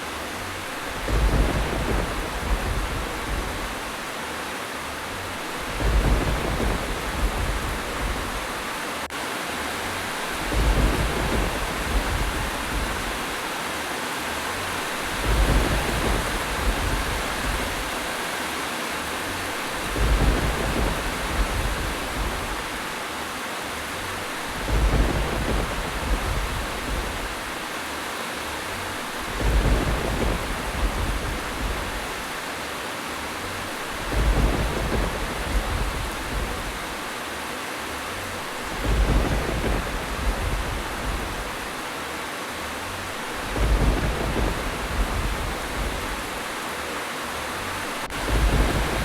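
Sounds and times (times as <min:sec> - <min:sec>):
heavy rain hissing: 0:00.0 - 0:49.0
thunder rumbling: 0:00.3 - 0:04.3, 0:04.9 - 0:09.1, 0:09.8 - 0:13.6, 0:14.3 - 0:18.4, 0:19.0 - 0:23.1, 0:23.7 - 0:32.6, 0:33.3 - 0:42.0, 0:42.7 - 0:46.7, 0:47.6 - 0:49.0.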